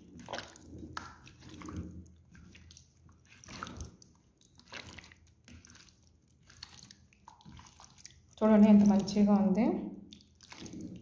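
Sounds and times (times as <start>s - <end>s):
hand squelching meat in marinade: 0.0s - 11.0s.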